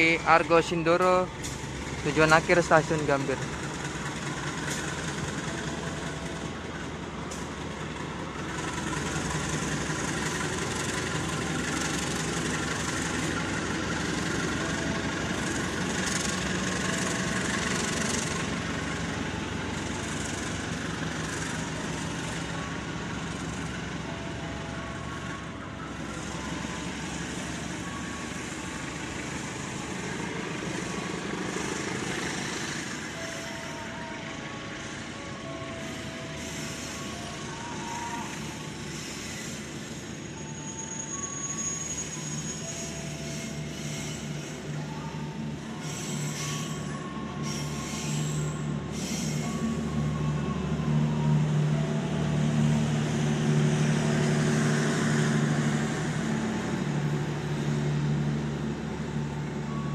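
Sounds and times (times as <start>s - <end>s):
locomotive engine drone: 0.0s - 59.9s
wheel and rail noise: 0.0s - 59.9s.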